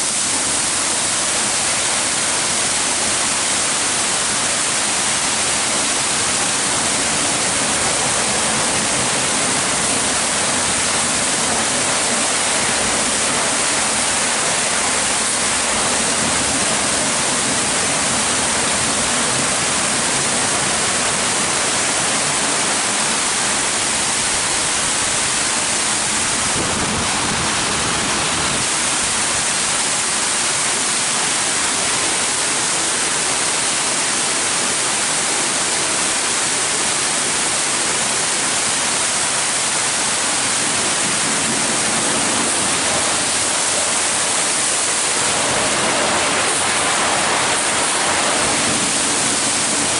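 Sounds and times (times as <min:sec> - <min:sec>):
water spraying: 0:00.0 - 0:49.9.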